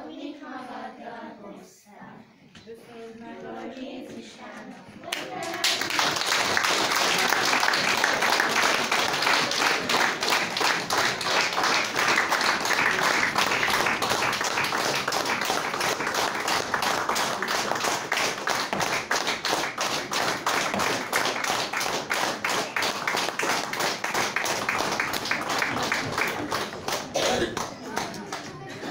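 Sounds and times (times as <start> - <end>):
audience applauding: 5.1 - 28.9.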